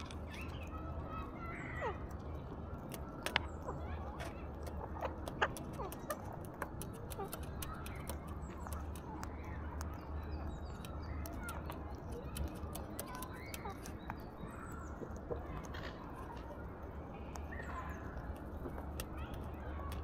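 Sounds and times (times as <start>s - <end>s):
beak clicking on seeds: 2.0s - 20.0s.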